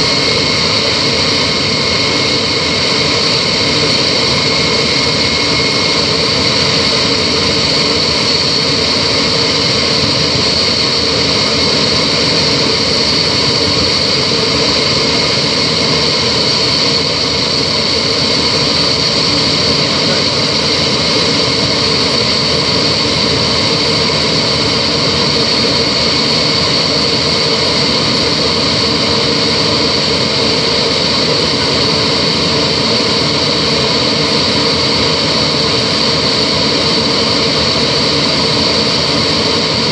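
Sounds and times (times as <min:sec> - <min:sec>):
high turbine whistle: 0:00.0 - 0:39.9
jet engines roaring in cabin: 0:00.0 - 0:39.9.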